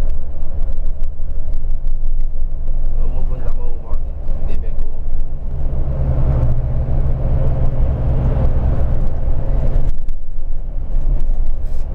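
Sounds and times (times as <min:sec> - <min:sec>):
bus engine rumble: 0:00.0 - 0:11.9.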